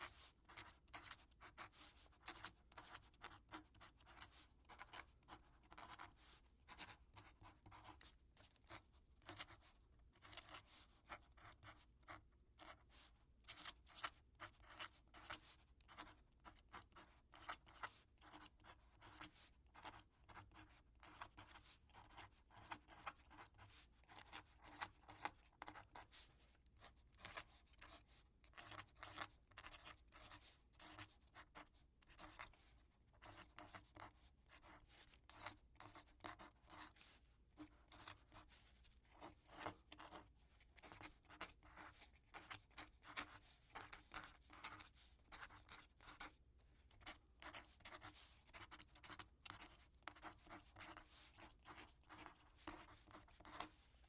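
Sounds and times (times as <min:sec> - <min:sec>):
quill pen scratching paper: 0:00.0 - 0:37.0, 0:37.6 - 0:53.8.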